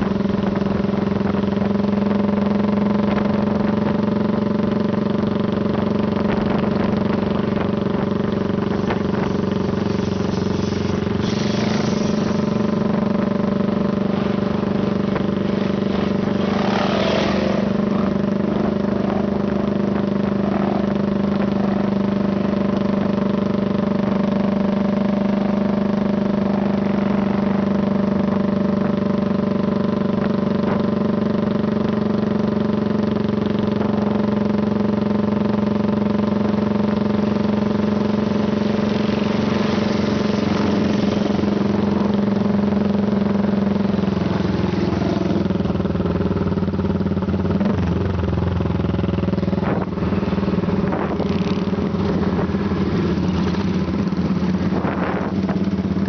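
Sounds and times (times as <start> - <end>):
motorcycle engine cruising: 0.0 - 56.0
motorcycle revving: 0.0 - 56.0.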